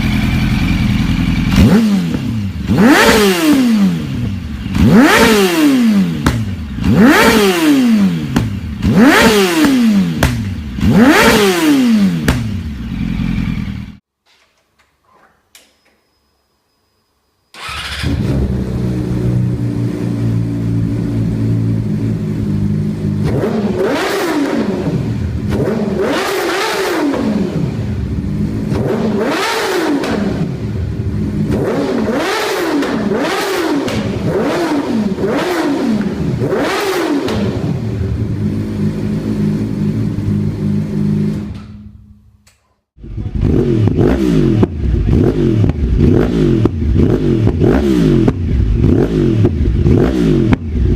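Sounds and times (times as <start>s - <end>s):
motorcycle engine idling and revving: 0.0s - 14.1s, 17.6s - 50.9s
another engine revving: 1.5s - 13.5s, 17.6s - 41.6s, 43.0s - 50.9s.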